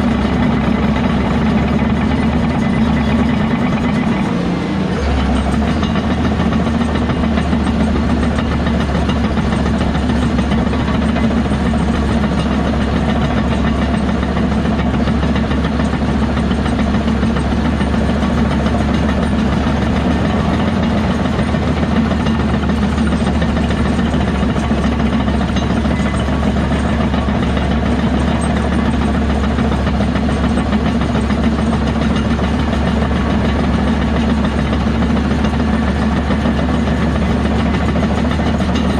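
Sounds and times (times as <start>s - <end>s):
diesel machinery engine droning: 0.0s - 38.9s.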